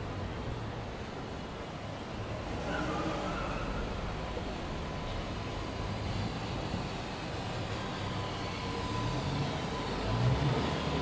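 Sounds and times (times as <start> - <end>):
low rumble of car traffic: 0.0 - 11.0.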